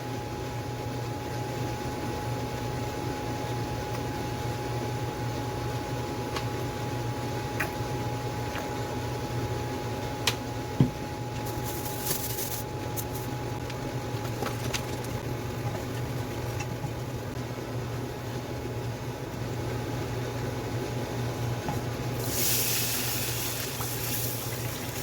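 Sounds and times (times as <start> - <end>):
kitchen fan humming: 0.0 - 25.0.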